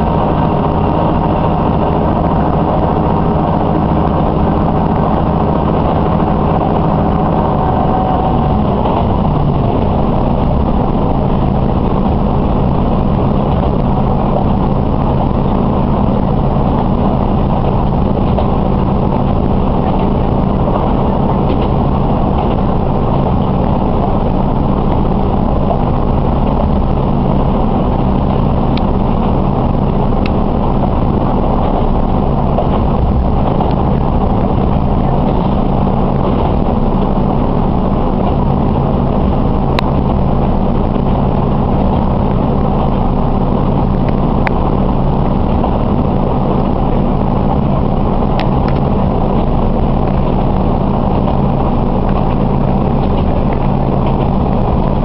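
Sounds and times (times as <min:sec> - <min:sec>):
low engine hum: 0:00.0 - 0:55.0
wheels rumbling on rails: 0:00.0 - 0:55.0.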